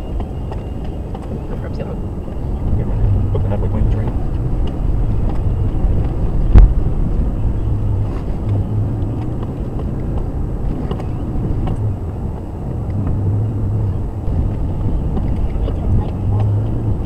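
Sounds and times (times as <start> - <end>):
body clicks and rattles: 0.0 - 17.0
engine running low: 0.0 - 17.0.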